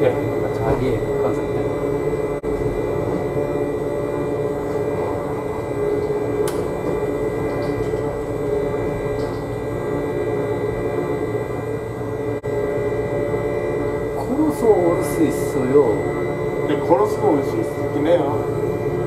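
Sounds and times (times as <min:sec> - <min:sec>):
high whining tones: 0:00.0 - 0:19.0
train car running hum: 0:00.0 - 0:19.0.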